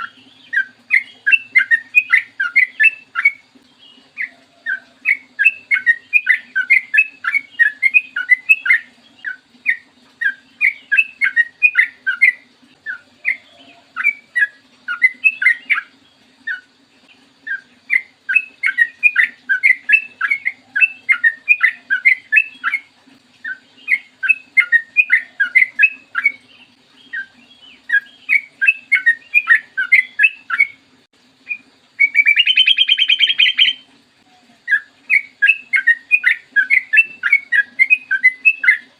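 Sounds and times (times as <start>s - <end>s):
bulbul singing chattering notes: 0.0s - 30.8s, 31.4s - 38.9s.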